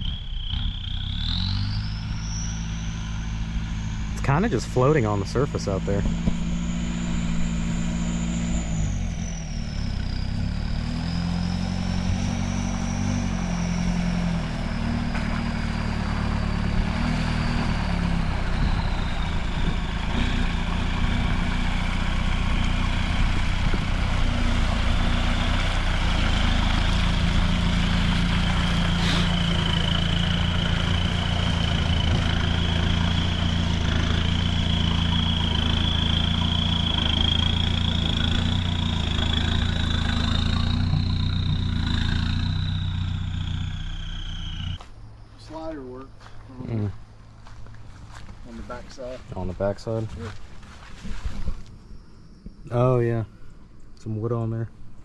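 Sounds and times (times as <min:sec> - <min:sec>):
high whine sliding down: 0:00.0 - 0:44.8
engine running at low speed: 0:00.0 - 0:55.0.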